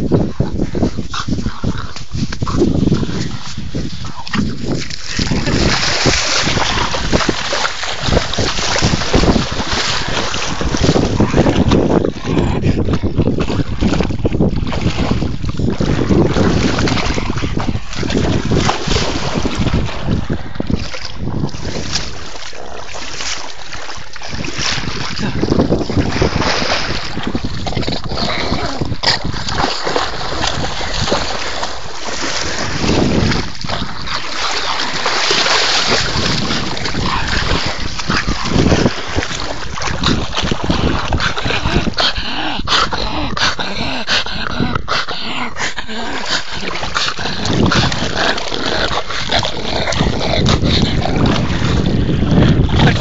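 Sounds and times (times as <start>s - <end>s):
river water splashing: 0.0s - 42.0s, 46.1s - 53.0s
wind buffeting microphone: 0.0s - 53.0s.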